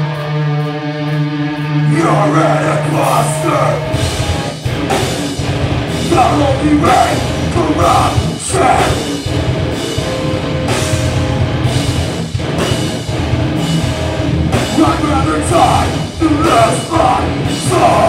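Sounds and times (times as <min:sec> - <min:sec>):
bass guitar: 0:00.0 - 0:18.0
distorted electric guitars: 0:00.0 - 0:18.0
drum kit: 0:00.0 - 0:18.0.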